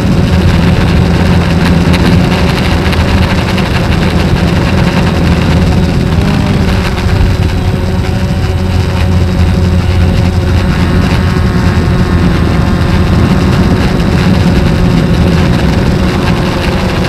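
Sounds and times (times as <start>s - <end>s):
drone motors humming: 0.0s - 17.0s
rushing noise: 0.0s - 17.0s.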